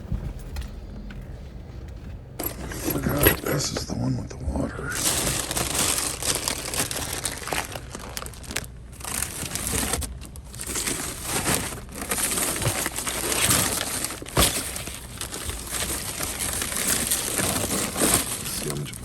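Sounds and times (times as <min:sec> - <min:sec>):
plastic bags crinkling: 0:02.4 - 0:03.9, 0:04.9 - 0:19.0.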